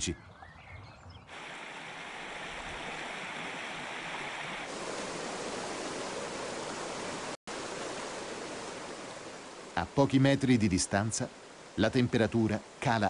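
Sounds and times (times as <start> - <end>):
stream rushing over stones: 1.3 - 13.0.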